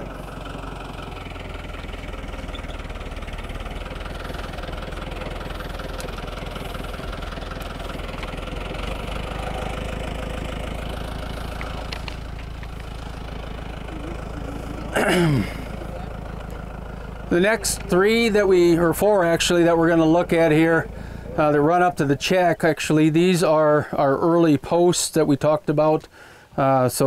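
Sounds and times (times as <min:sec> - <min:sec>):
tractor engine running: 0:00.0 - 0:26.2.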